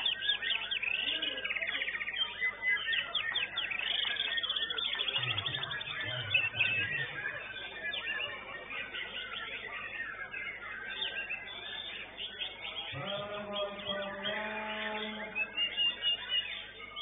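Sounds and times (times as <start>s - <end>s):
birds singing whistled trills: 0.0s - 17.0s
murmur of voices: 0.0s - 17.0s.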